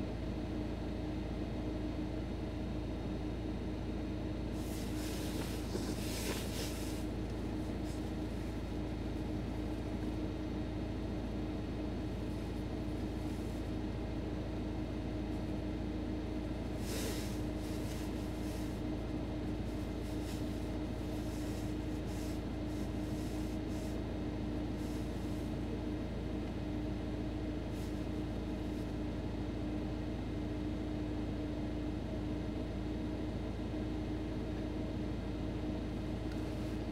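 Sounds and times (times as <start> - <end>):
car interior hum and hiss: 0.1 - 36.9.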